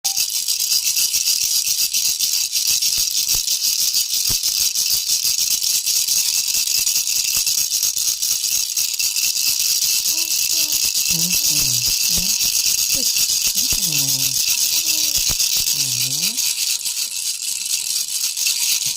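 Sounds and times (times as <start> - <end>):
baby toy rattle shaken: 0.1 - 18.9.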